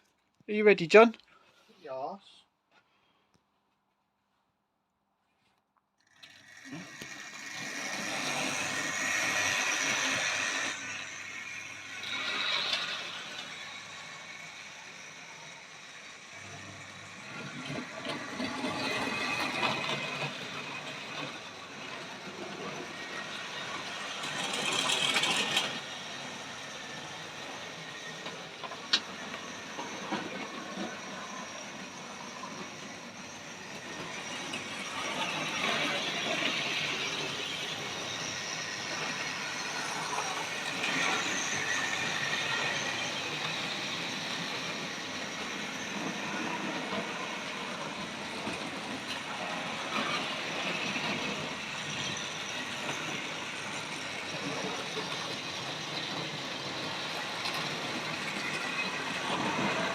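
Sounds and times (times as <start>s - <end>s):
model train whirring and rattling: 6.0s - 59.9s.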